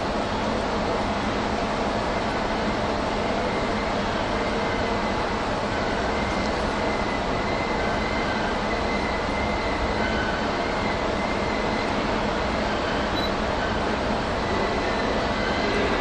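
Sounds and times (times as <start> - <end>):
train running rumble and hiss: 0.0 - 16.0.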